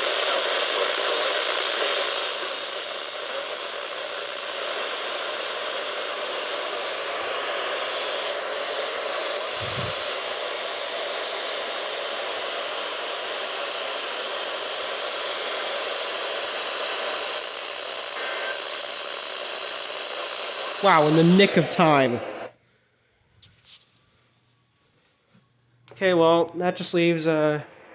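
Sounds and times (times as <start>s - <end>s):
radio static hiss: 0.0s - 22.6s, 23.4s - 27.9s.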